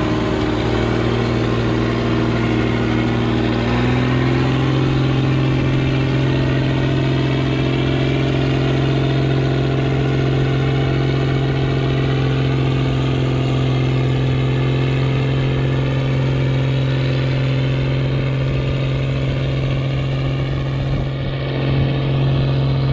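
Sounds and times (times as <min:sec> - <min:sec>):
vehicle engine humming steadily: 0:00.0 - 0:22.9.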